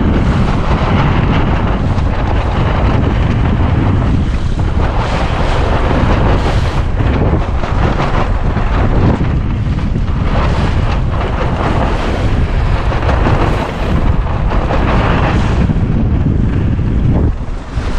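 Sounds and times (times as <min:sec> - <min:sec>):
waves against boat hull: 0:00.0 - 0:17.9
wind buffeting microphone: 0:00.0 - 0:17.9.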